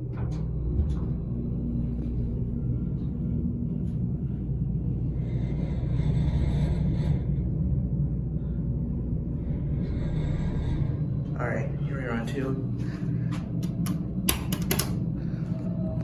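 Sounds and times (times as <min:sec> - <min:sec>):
elevator low rumble: 0:00.0 - 0:16.0.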